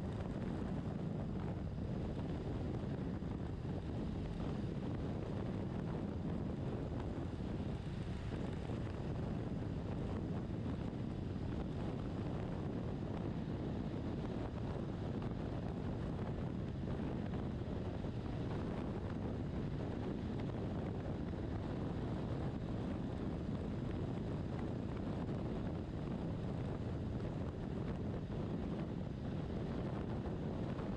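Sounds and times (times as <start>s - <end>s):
wind roar on microphone: 0.0s - 30.9s.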